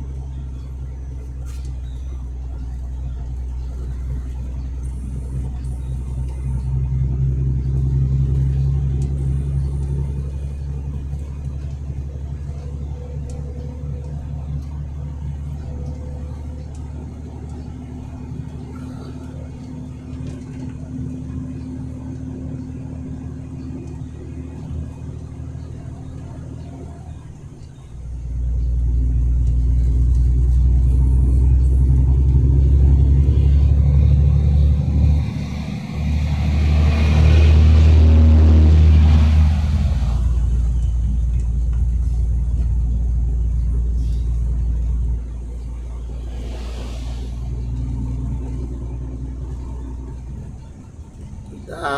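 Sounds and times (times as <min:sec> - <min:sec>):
truck engine drone: 0:00.0 - 0:51.9.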